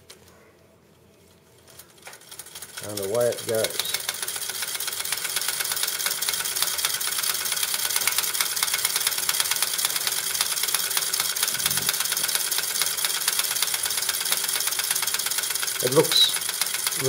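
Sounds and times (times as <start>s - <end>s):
clockwork mechanism ticking whirr: 1.6s - 17.0s.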